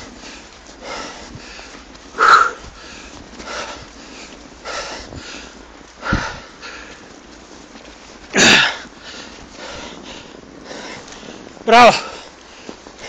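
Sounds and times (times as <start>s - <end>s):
heavy rhythmic breathing: 0.0s - 13.0s.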